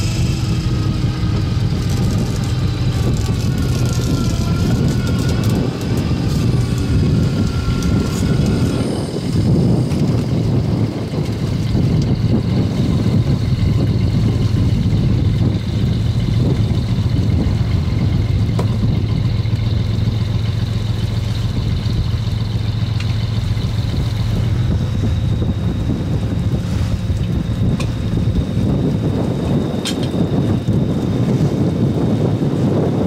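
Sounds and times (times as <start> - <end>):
diesel engine droning: 0.0 - 33.0
wind on microphone: 0.0 - 33.0.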